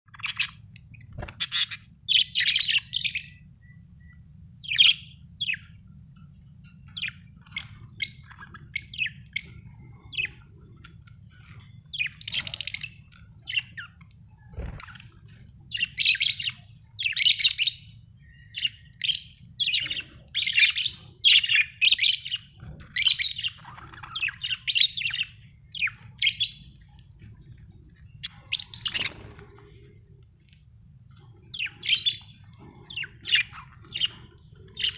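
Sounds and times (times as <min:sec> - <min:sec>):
budgerigars chirping and warbling: 0:00.1 - 0:34.9
low steady hum: 0:00.1 - 0:34.9.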